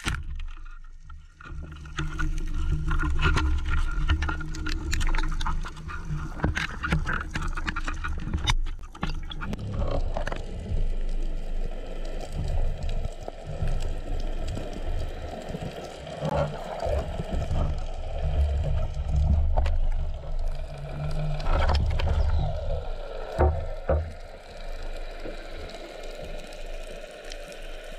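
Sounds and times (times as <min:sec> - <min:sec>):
muffled underwater noise: 0:01.9 - 0:27.9.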